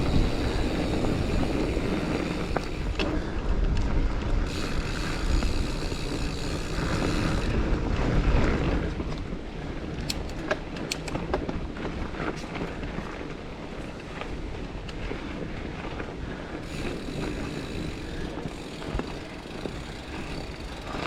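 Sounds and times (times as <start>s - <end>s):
bike clicks and rattles: 0.0s - 21.0s
bike tyre noise on dirt: 0.0s - 21.0s
wind buffeting microphone: 0.0s - 21.0s.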